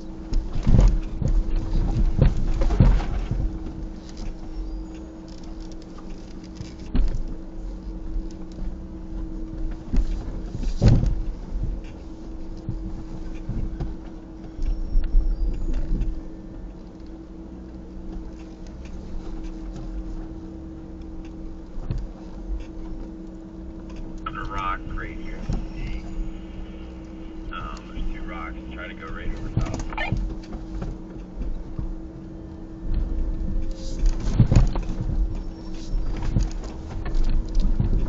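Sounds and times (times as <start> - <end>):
vehicle engine humming: 3.2 - 38.0.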